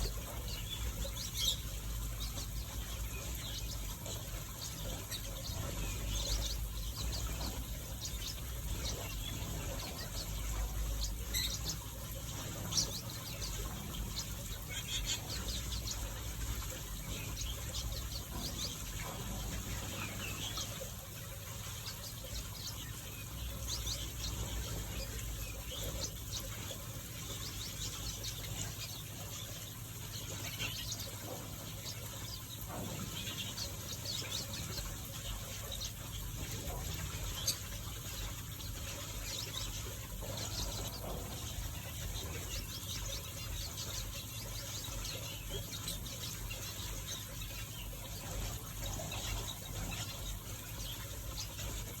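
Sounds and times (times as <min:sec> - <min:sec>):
finches chirping: 0:00.0 - 0:52.0.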